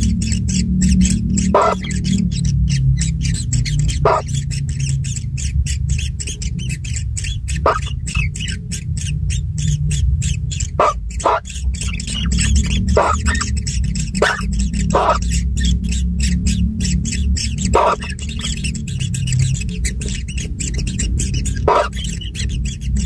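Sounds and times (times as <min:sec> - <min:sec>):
nestlings chirping and squawking: 0:00.0 - 0:23.0
steady low hum: 0:00.0 - 0:23.0.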